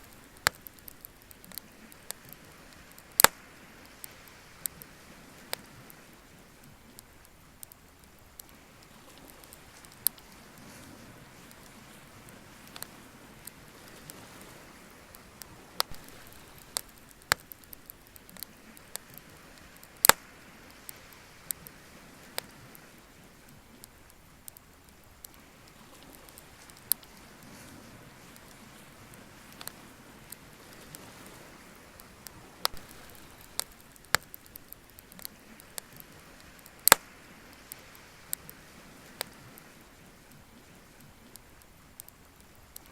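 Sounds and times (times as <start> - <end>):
bonfire crackling: 0.0 - 42.9
faint steady hiss: 0.0 - 42.9.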